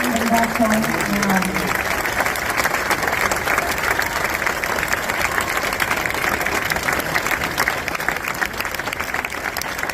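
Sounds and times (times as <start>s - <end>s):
audience clapping: 0.0s - 9.9s.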